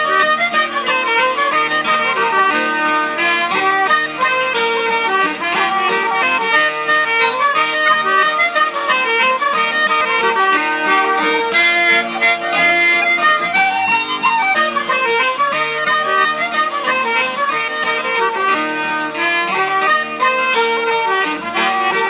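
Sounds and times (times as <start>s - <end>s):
button accordion: 0.0s - 22.0s
fiddle: 0.0s - 22.0s
guitar accompaniment: 0.0s - 22.0s.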